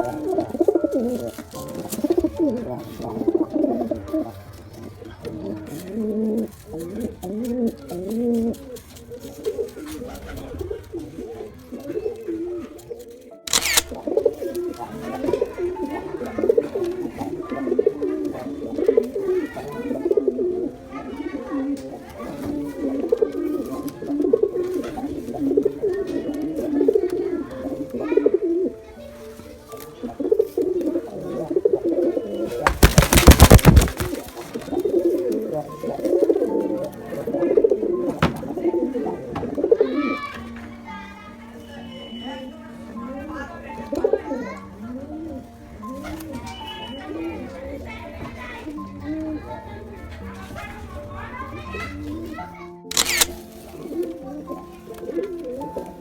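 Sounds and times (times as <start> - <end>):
pigeon cooing: 0.0 - 56.0.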